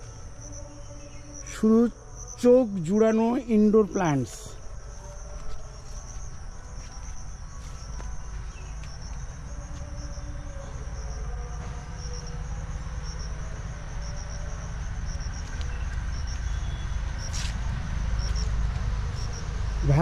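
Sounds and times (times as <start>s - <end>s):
continuous low rumble: 0.0s - 20.0s
insects chirping: 0.0s - 20.0s.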